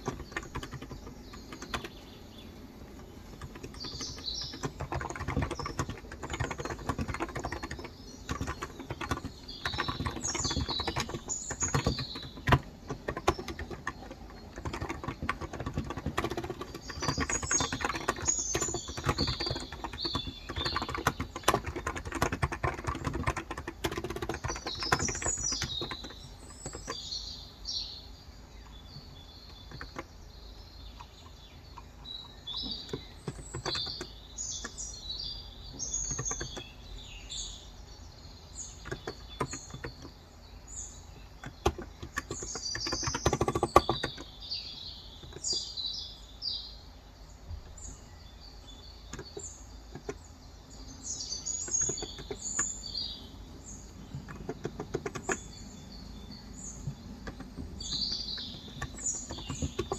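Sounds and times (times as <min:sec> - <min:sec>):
keyboard typing: 0:00.0 - 0:27.2, 0:28.6 - 0:30.2, 0:30.8 - 0:37.0, 0:38.7 - 0:40.3, 0:41.1 - 0:44.4, 0:48.6 - 0:59.9
birds chirping: 0:00.0 - 0:59.9.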